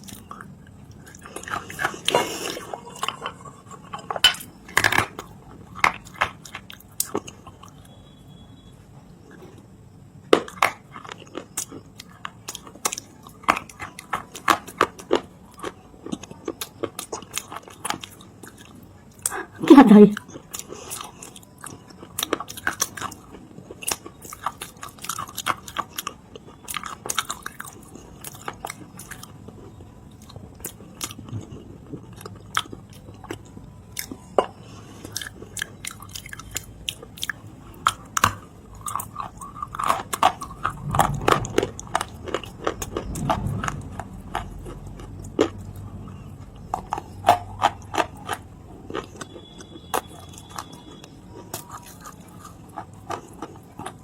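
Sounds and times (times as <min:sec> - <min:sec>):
person chewing crunchy clay: 0:00.0 - 0:19.6, 0:20.2 - 0:54.0.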